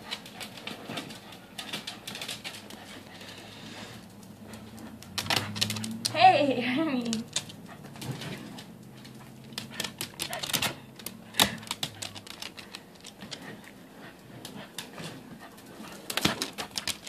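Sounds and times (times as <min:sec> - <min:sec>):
dog claws clicking on tiles: 0:00.0 - 0:06.2, 0:06.8 - 0:17.0.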